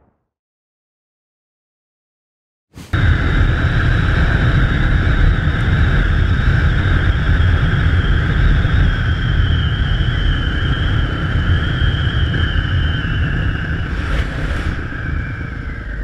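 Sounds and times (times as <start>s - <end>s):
wind rumble on microphone: 2.9s - 16.0s.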